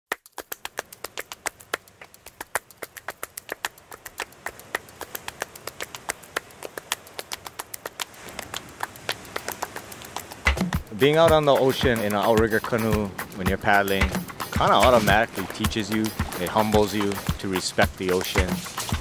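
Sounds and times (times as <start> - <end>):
rapid sharp clicks: 0.1 - 19.0
soft hiss: 0.7 - 19.0.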